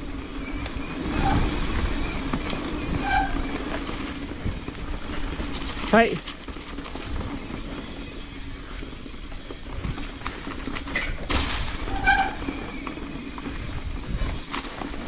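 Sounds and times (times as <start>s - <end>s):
brake squeal: 0.0s - 5.9s, 7.1s - 14.5s
bike disc brakes howling: 0.0s - 15.0s
bike rattling on rough trail: 0.0s - 15.0s.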